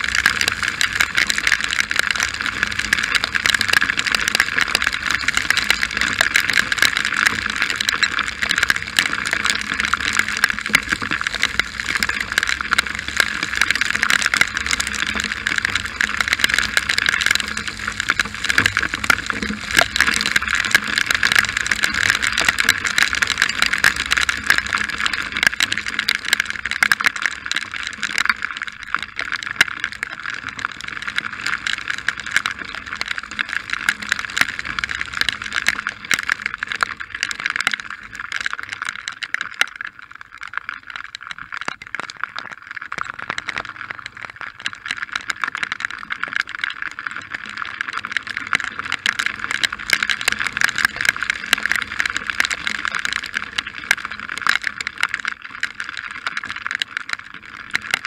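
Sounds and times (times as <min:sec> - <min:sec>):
heavy rain on motorcycle: 0:00.0 - 0:58.0.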